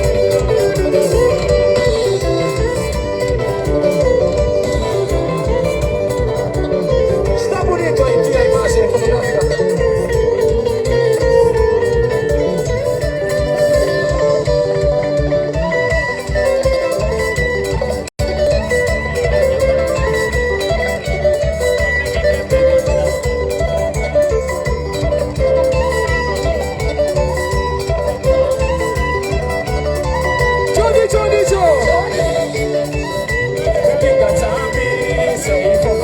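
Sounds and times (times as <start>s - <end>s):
live dance band playing: 0.0s - 36.0s.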